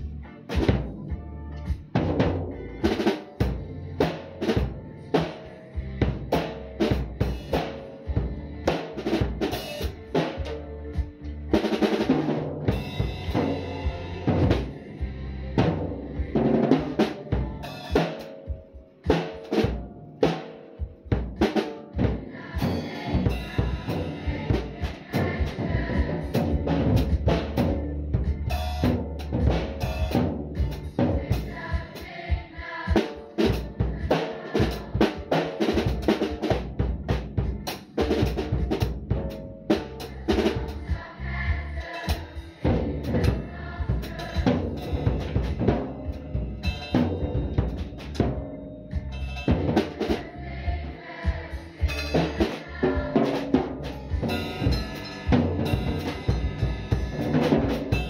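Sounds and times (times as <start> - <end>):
recorded song playing: 0.0 - 36.5, 40.1 - 47.1, 47.8 - 58.0
acoustic drum kit beat: 0.0 - 58.0.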